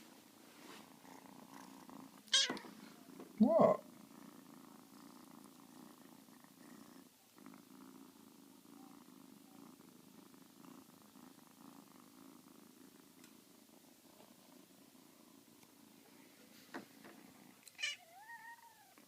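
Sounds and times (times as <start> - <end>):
kitten purring: 0.0 - 19.0.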